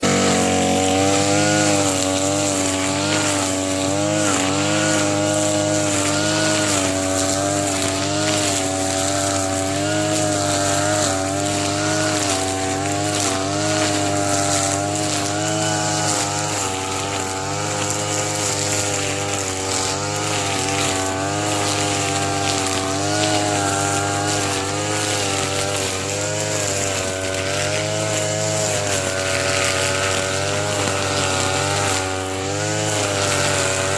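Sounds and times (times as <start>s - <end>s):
brush cutter engine cutting grass: 0.0s - 33.9s.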